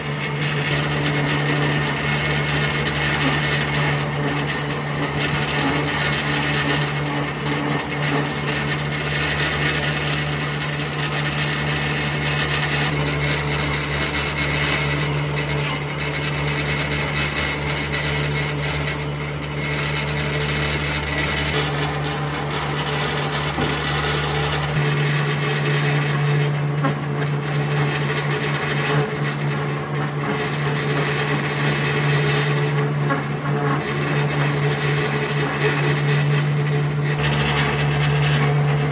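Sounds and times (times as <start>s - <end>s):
electric power tool motor hum: 0.0s - 38.9s.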